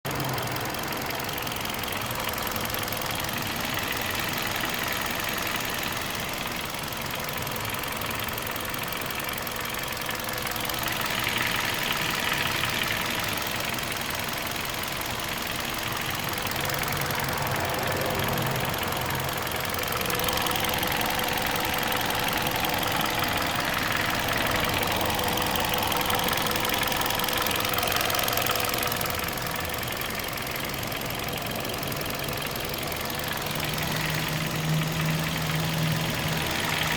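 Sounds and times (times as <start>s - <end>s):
car engine with rasping rattle: 0.0s - 36.9s.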